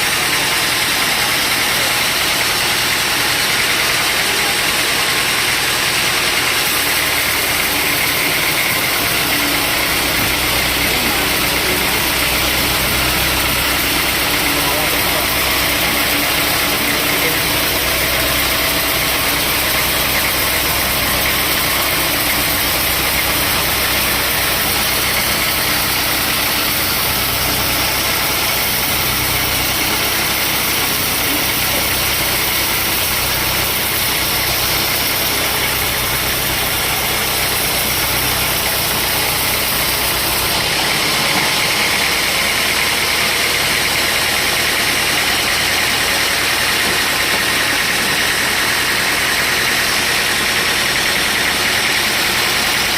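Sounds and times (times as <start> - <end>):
sawmill machinery running: 0.0 - 52.9.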